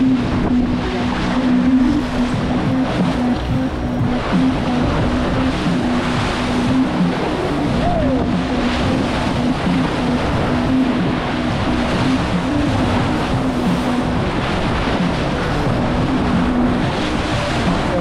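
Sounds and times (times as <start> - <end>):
low hum: 0.0 - 18.0
water rushing past hull: 0.0 - 18.0
wind buffeting microphone: 0.0 - 18.0.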